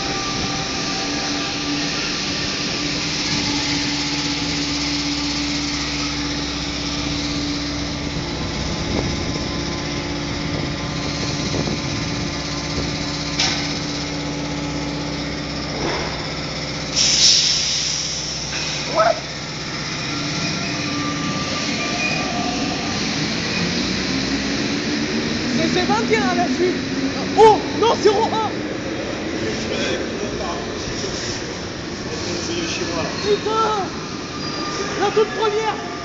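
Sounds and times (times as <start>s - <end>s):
train humming at station: 0.0s - 36.0s.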